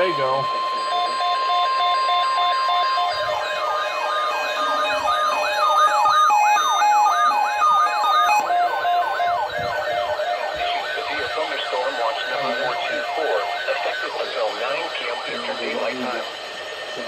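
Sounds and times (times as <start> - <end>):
beeping tones: 0.0 - 17.0
siren-like alarm sweeping: 0.0 - 17.0
steady attention tone: 0.0 - 17.0.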